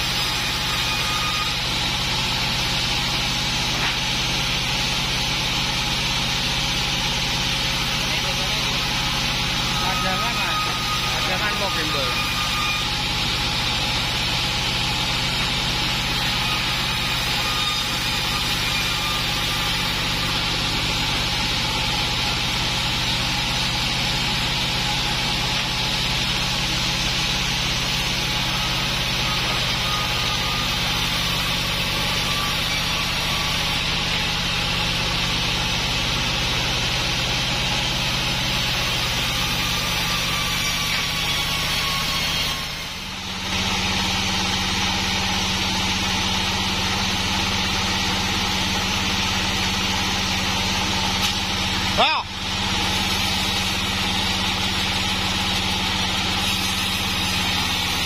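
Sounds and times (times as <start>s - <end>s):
band saw and engine droning: 0.0s - 58.0s.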